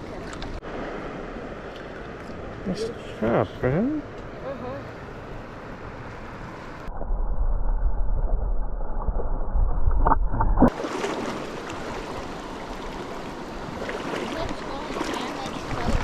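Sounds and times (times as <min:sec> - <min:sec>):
stream water running: 0:00.0 - 0:07.0, 0:07.6 - 0:16.0.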